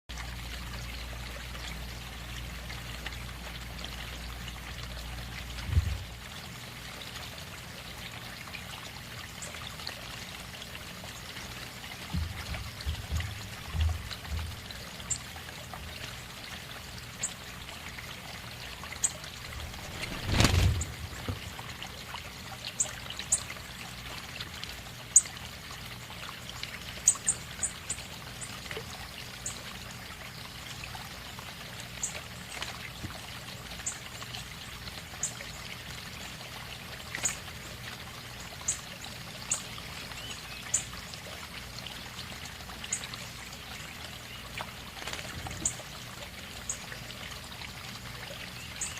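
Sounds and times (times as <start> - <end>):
trickling water: 0.1 - 48.9.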